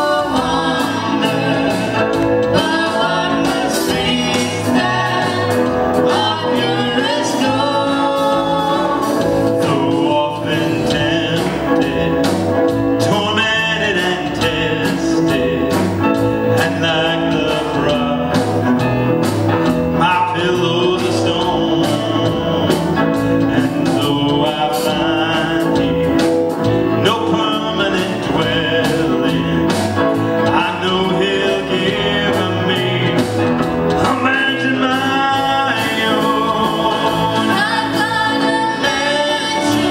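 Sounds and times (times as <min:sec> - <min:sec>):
acoustic guitar and band: 0:00.0 - 0:39.9.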